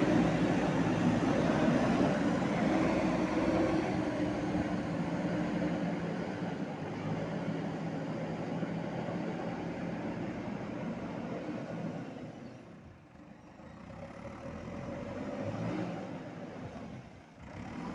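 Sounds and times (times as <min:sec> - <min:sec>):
diesel engine running: 0:00.0 - 0:14.6.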